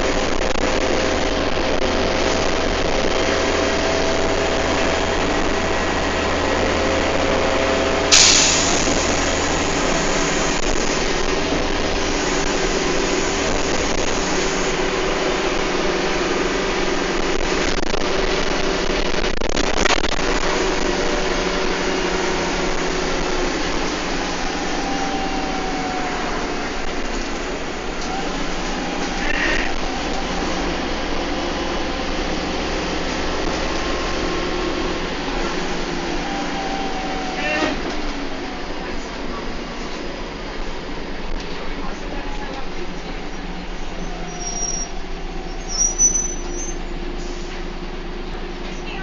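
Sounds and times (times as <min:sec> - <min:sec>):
bus engine droning: 0:00.0 - 0:49.0.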